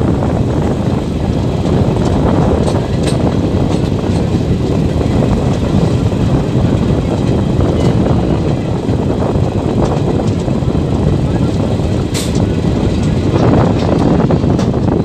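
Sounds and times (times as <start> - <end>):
rushing air: 0.0 - 15.0
train wheels rumbling on rail: 0.0 - 15.0.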